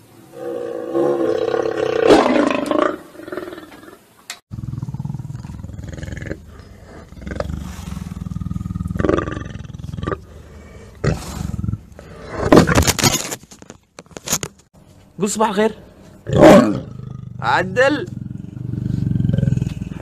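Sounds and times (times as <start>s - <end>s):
lion growl-roar: 0.3s - 12.8s, 16.2s - 20.0s.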